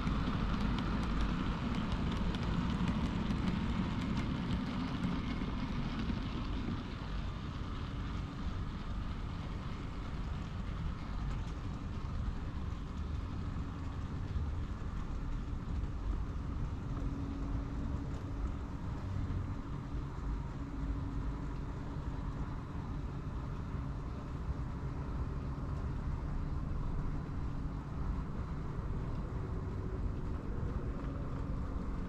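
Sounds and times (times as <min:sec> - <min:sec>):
model train running on track: 0:00.0 - 0:32.0.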